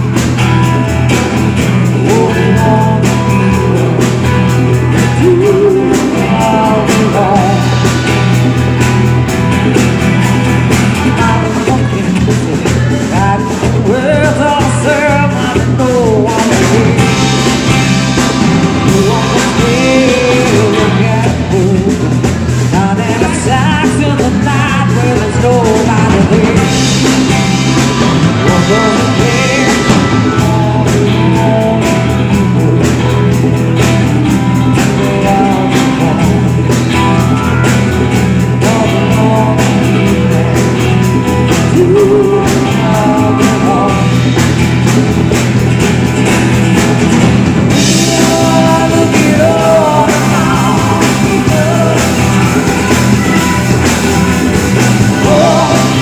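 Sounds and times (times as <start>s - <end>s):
rock band playing live: 0.0s - 56.0s
person singing: 1.3s - 8.8s, 9.8s - 45.1s, 47.6s - 56.0s.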